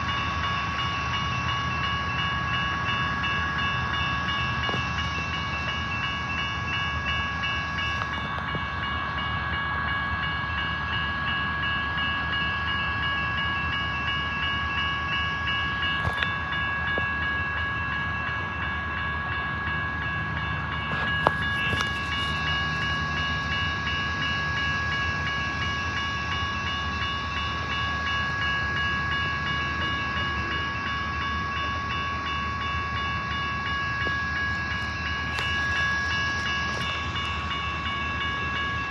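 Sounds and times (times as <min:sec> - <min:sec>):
high-pitched whine: 0:00.0 - 0:38.9
train low rumble: 0:00.0 - 0:38.9.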